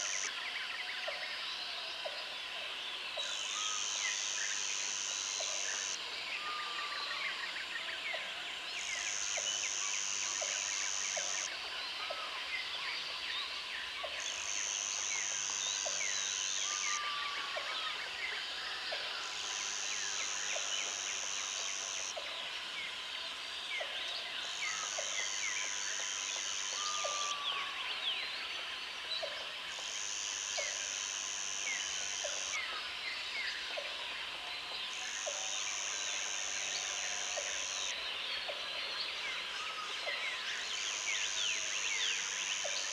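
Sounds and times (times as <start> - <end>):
insects and birds chorus: 0.0 - 42.9.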